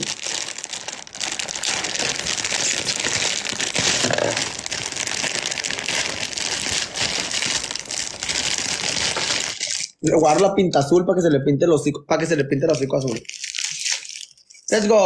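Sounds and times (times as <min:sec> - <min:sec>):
plastic packaging crinkling: 0:00.0 - 0:10.6, 0:12.7 - 0:15.0.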